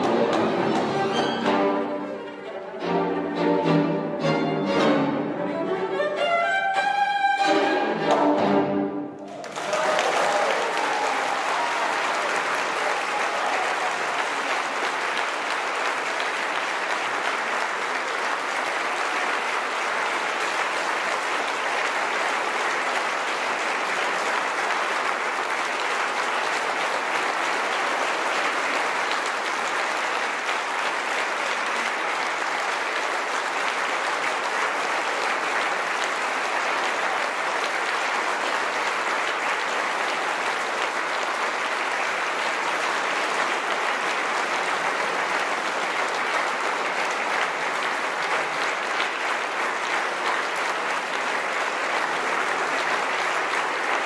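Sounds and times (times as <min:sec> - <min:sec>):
audience applauding: 0:00.0 - 0:04.5, 0:09.2 - 0:54.0.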